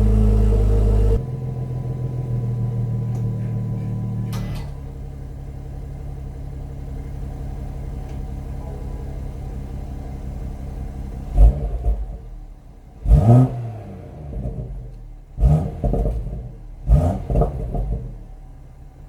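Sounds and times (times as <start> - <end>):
car engine revving: 0.0 - 3.2, 5.0 - 18.8
car engine idling: 0.0 - 19.0.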